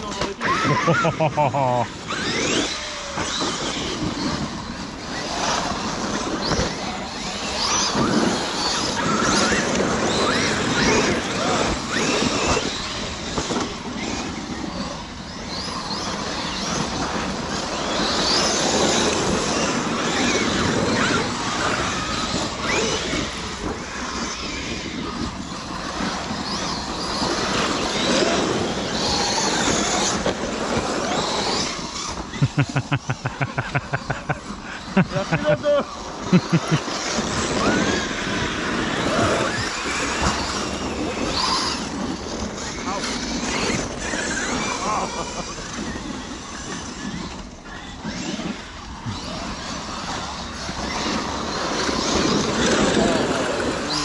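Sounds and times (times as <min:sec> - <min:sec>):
rc car motors whining: 0:00.0 - 0:54.0.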